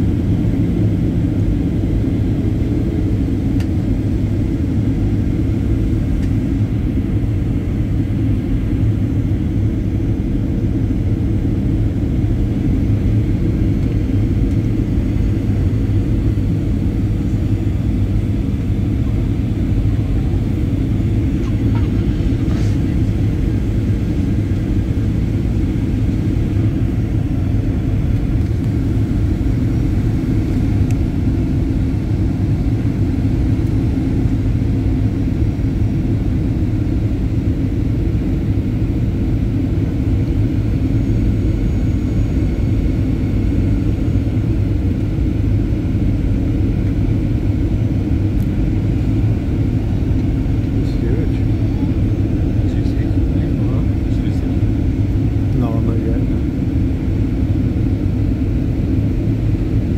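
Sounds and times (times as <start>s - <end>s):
aircraft cabin rumble: 0.0s - 59.9s.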